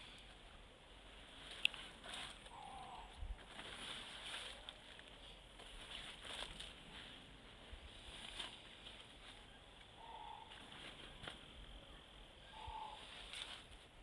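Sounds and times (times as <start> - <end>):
soft steady hiss: 0.0 - 14.0.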